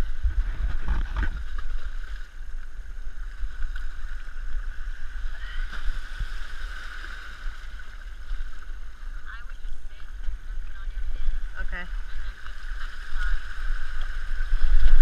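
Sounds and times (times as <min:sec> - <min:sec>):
muffled wind rumble: 0:00.0 - 0:15.0.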